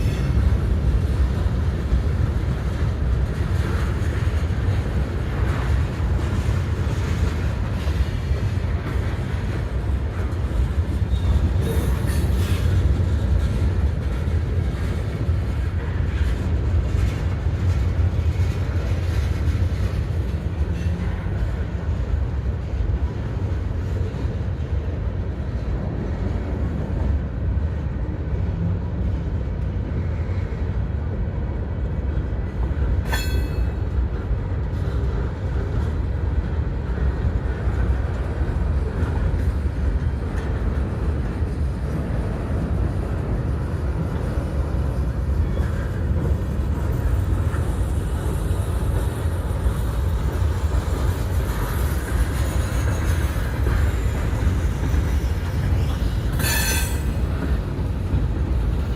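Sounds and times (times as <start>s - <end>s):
freight train cars rumbling: 0.0s - 58.9s.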